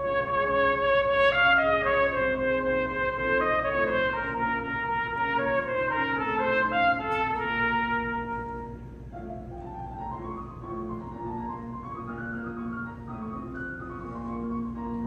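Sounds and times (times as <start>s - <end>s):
piano accompaniment: 0.0s - 15.0s
trumpet melody: 0.0s - 15.0s.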